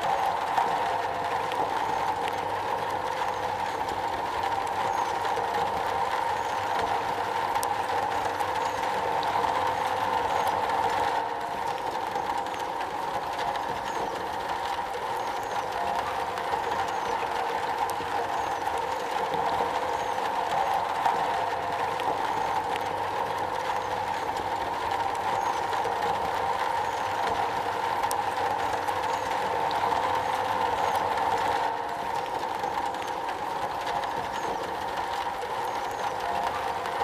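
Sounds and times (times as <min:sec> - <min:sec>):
rain on a metal roof: 0:00.0 - 0:37.0.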